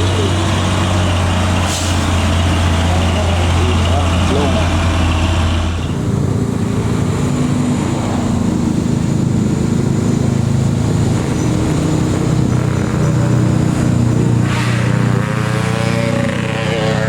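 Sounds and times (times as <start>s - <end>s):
vehicle engine running loudly: 0.0s - 17.0s.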